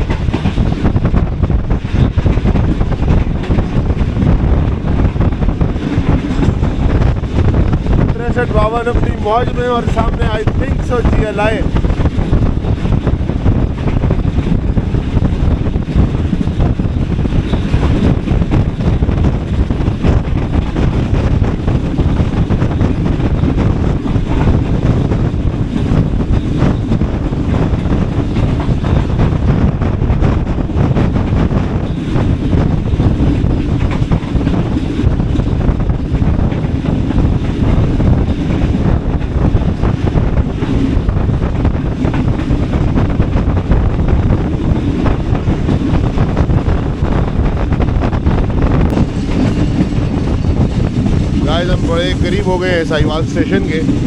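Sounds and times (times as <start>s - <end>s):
train wheels rumbling on rails: 0.0s - 54.0s
wind buffeting microphone: 0.0s - 54.0s.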